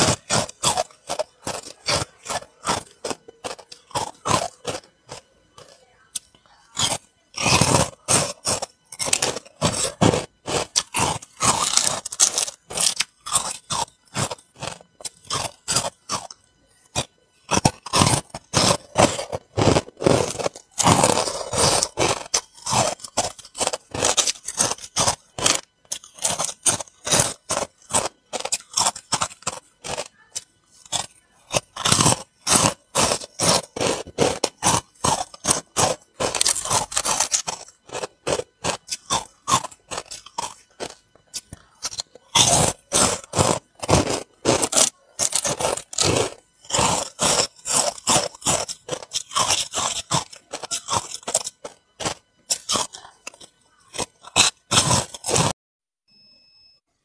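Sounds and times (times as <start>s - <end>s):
crunchy ice chewing: 0.0s - 55.6s.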